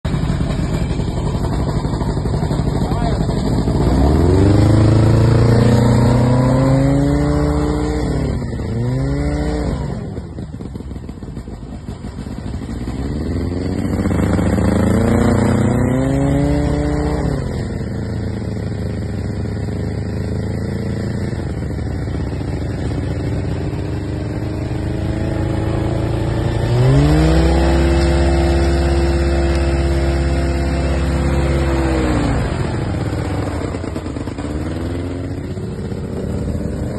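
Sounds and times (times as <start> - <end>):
boat motor revving: 0.1 - 10.7, 12.6 - 36.9.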